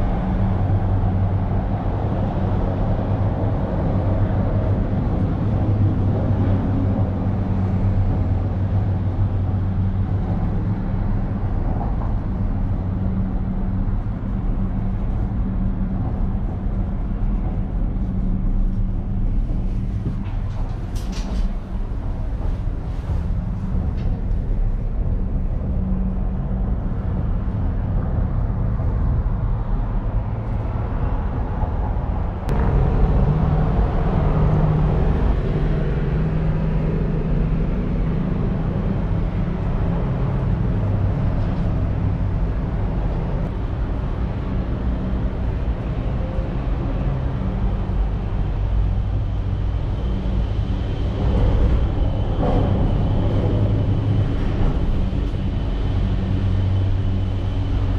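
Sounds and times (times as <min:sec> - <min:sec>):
cable car rumble and hum: 0:00.0 - 0:57.9.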